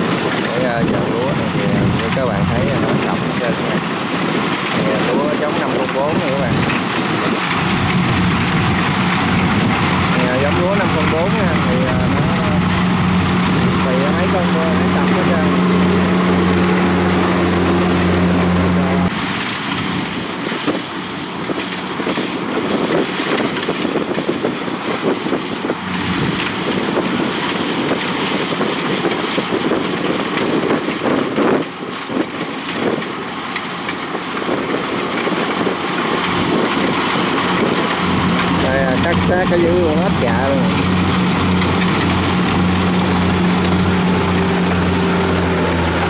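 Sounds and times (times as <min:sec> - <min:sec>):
diesel engine hum: 0:00.0 - 0:46.0
harvester crackling clatter: 0:00.0 - 0:46.0.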